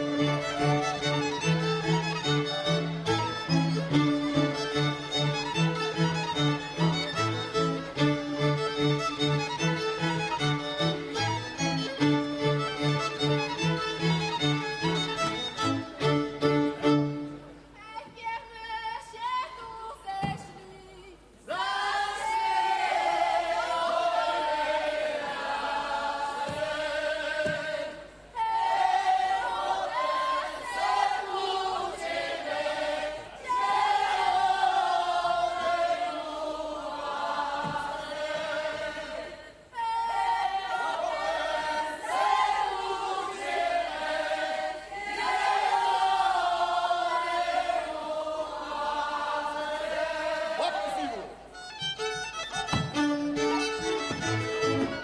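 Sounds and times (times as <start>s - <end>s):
group singing unaccompanied folk song: 0.0s - 17.2s, 21.5s - 51.3s.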